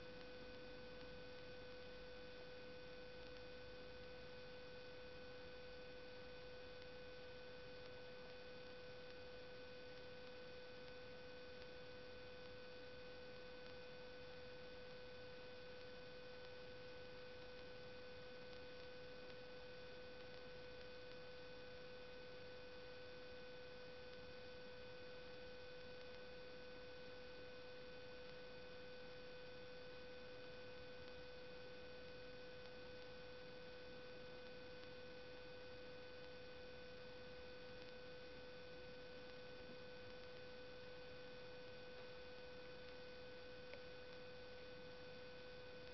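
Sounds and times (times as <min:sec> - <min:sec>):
faint electrical hiss: 0:00.0 - 0:45.9
thin electrical hum: 0:00.0 - 0:45.9.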